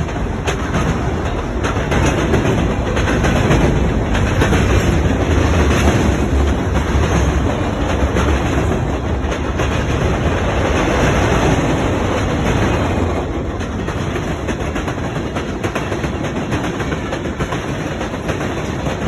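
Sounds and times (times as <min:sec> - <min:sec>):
freight train cars rumbling: 0:00.0 - 0:19.0
train wheels clicking: 0:00.0 - 0:19.0.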